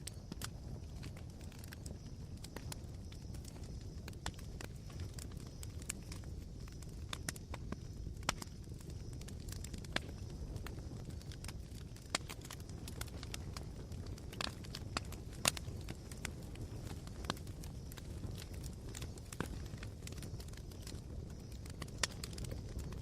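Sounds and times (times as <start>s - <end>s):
campfire embers crackling: 0.0s - 23.0s.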